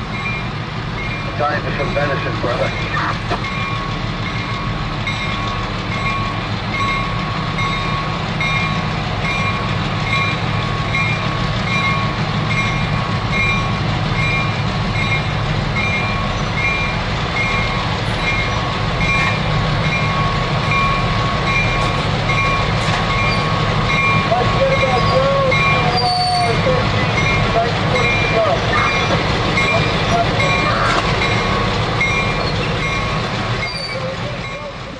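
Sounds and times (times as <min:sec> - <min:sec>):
diesel locomotive engines: 0:00.0 - 0:34.9
locomotive bell ringing: 0:00.0 - 0:34.9.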